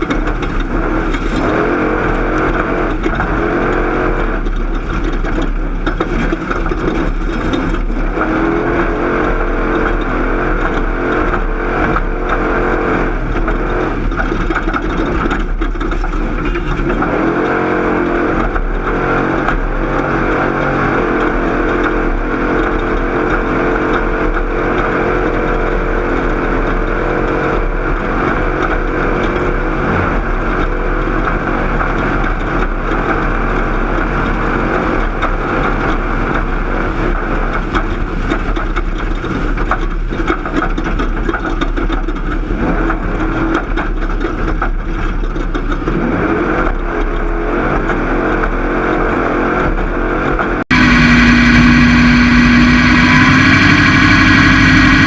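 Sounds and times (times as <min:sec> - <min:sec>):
race vehicle engine running hard: 0:00.0 - 0:55.0
vehicle rattle: 0:00.0 - 0:55.0.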